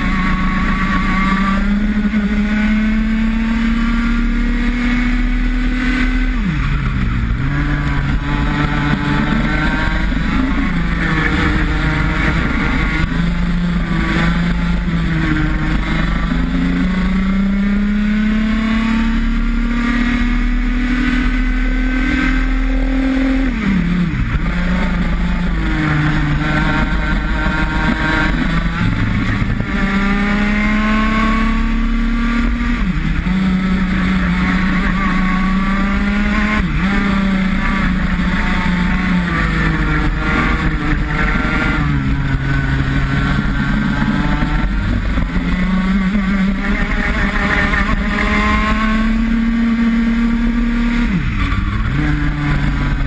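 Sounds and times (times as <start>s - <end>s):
two-stroke kart engine racing: 0.0s - 53.0s.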